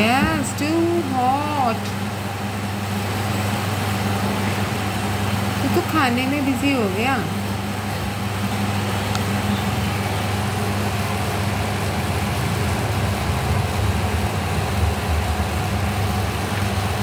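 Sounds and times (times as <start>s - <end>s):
electric fan airy rush: 0.0s - 17.0s
low mains hum: 0.0s - 17.0s.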